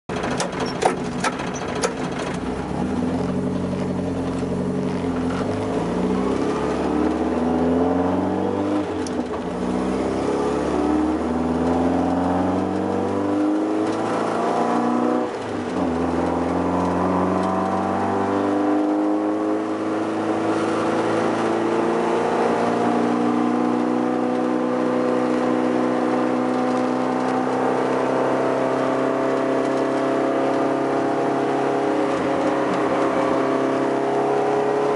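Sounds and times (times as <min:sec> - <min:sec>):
race car engine accelerating: 0:01.2 - 0:34.9.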